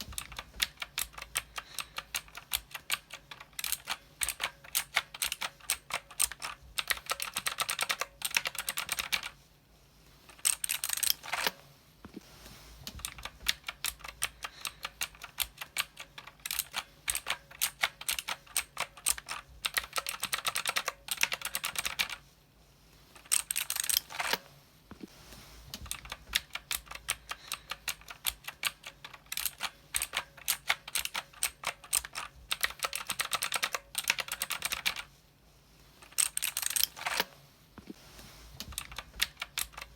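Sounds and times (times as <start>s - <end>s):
mechanical keyboard typing: 0.0s - 9.4s, 10.3s - 11.6s, 12.9s - 22.2s, 23.2s - 24.4s, 25.8s - 35.1s, 36.0s - 37.3s, 38.6s - 39.9s.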